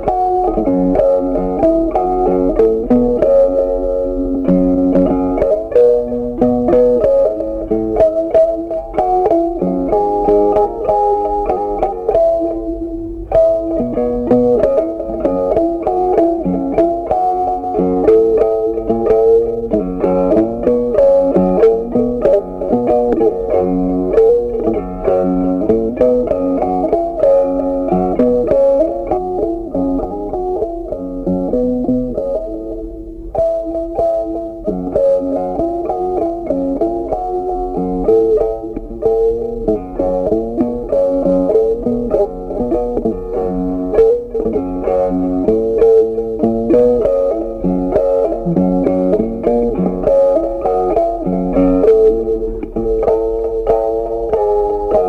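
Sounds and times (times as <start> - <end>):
plucked string melody: 0.0 - 55.0.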